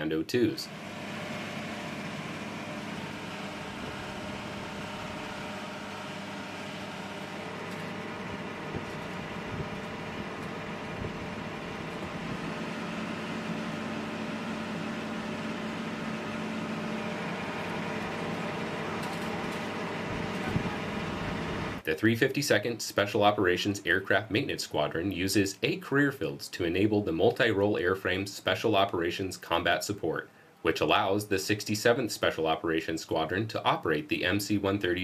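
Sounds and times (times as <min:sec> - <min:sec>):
mechanical hum with rushing hiss: 0:00.0 - 0:34.8.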